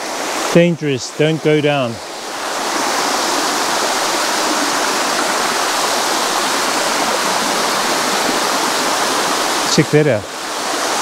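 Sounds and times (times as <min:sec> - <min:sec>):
water rushing down waterfall: 0:00.0 - 0:11.0.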